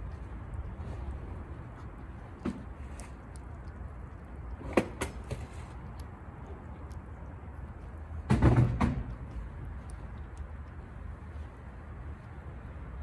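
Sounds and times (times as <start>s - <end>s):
cat licking and smacking: 0.0s - 8.4s, 9.0s - 13.0s.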